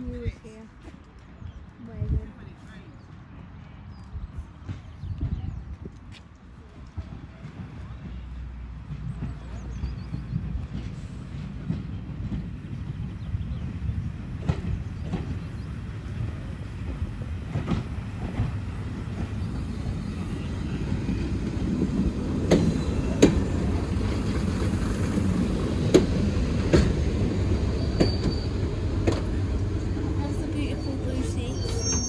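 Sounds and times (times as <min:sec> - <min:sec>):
diesel train rumble: 0:04.4 - 0:32.0.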